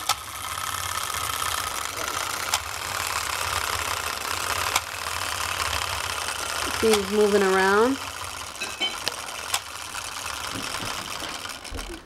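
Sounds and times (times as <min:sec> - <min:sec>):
clockwork motor whirring: 0:00.0 - 0:12.0.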